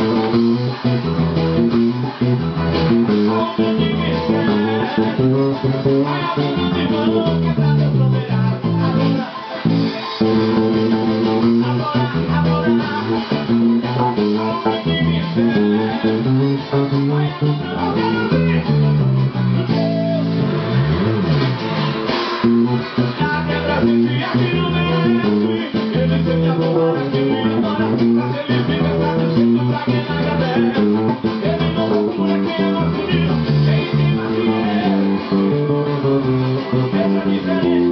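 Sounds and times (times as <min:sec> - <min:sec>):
band music with guitar: 0:00.0 - 0:37.9
electric bass groove: 0:00.0 - 0:37.9
person singing: 0:00.0 - 0:37.9.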